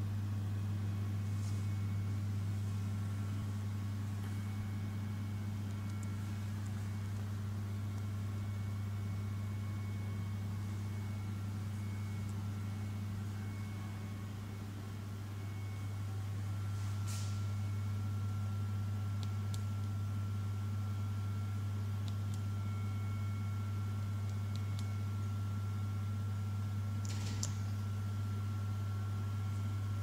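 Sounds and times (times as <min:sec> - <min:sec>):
faint high whine: 0:00.0 - 0:30.0
low electrical hum: 0:00.0 - 0:30.0.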